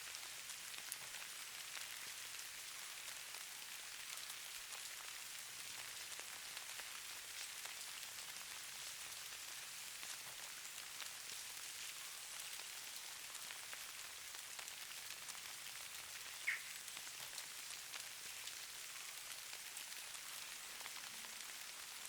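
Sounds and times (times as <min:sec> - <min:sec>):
rain patter: 0:00.0 - 0:22.0.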